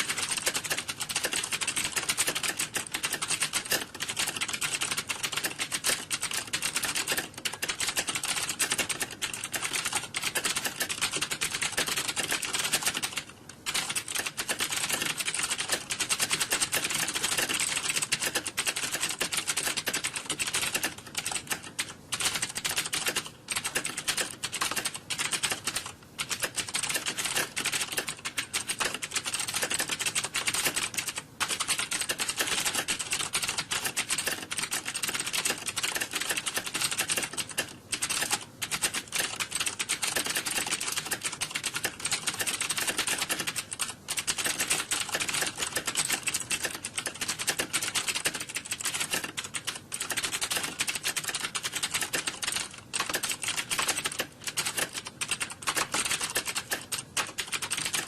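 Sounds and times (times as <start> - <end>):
many keyboards typing: 0.0 - 58.0.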